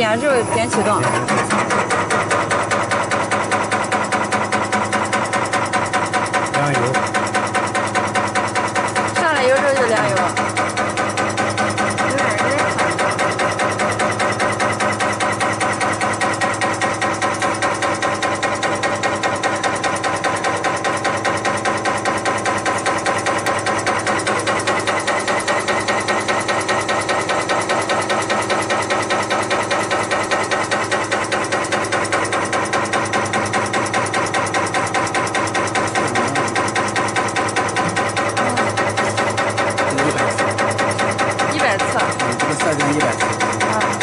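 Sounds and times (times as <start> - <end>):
fast mechanical knocking: 0.0 - 44.0
machine hum: 0.0 - 44.0.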